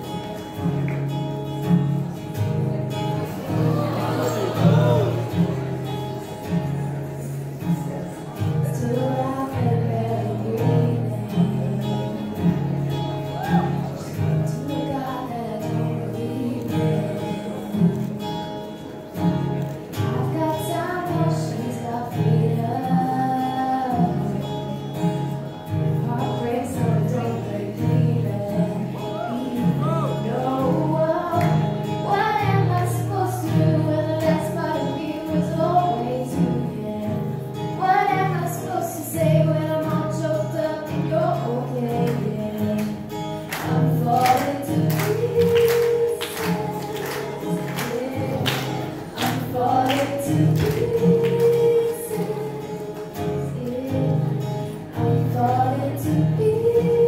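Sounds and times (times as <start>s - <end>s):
acoustic guitar strumming: 0.0s - 57.0s
woman singing: 8.4s - 18.3s, 20.0s - 25.3s, 25.9s - 57.0s.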